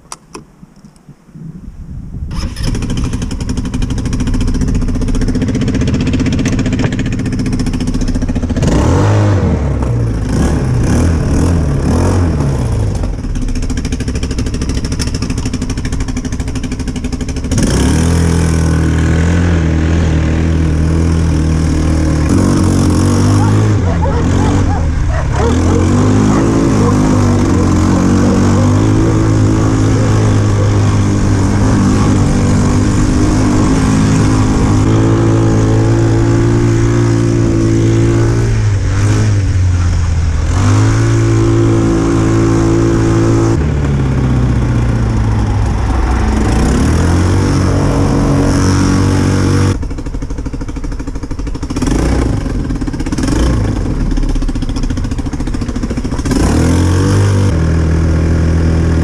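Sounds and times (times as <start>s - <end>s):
quad bike engine running hard: 2.3s - 59.0s.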